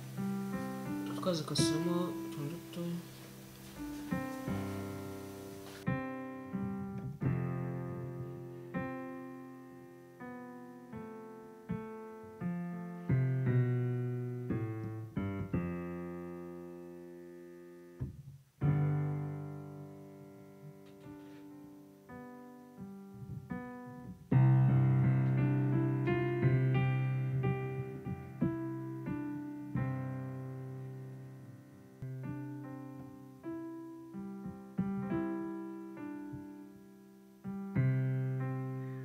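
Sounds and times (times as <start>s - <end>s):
piano notes and chords: 0.0s - 39.0s.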